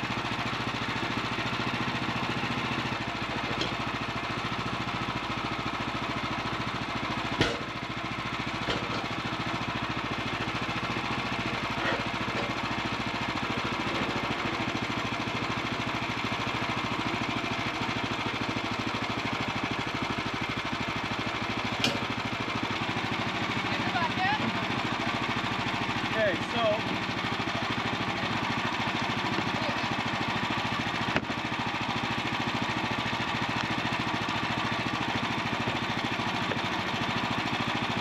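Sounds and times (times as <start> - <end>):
small gasoline engine running: 0.0 - 38.0.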